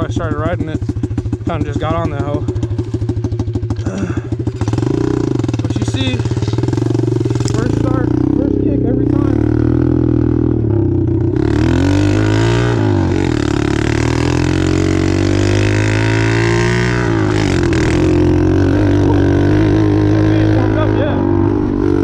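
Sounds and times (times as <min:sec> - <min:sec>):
motorbike engine running: 0:00.0 - 0:22.0.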